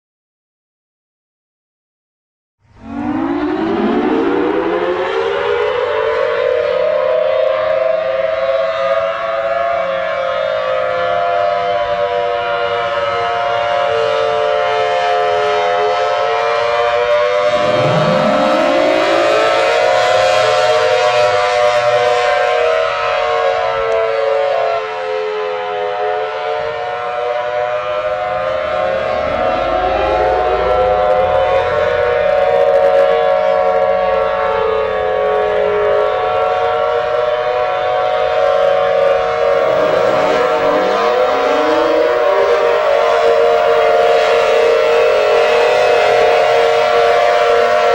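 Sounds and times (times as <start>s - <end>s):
air raid siren wailing: 2.6s - 47.9s.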